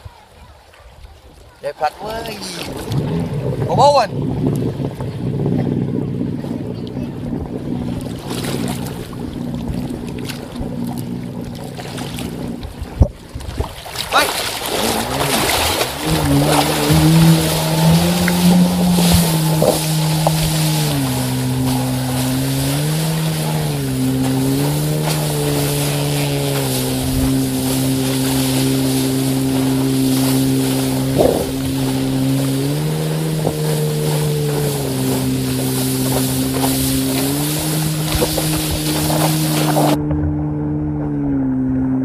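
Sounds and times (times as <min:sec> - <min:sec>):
motorboat engine: 0:00.0 - 0:42.0
wind on microphone: 0:02.2 - 0:42.0.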